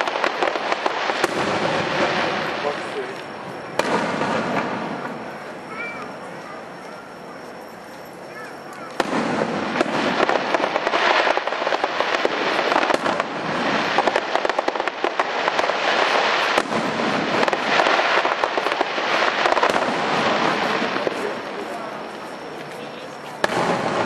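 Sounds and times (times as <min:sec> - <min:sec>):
fireworks crackling and bursting: 0:00.0 - 0:24.0.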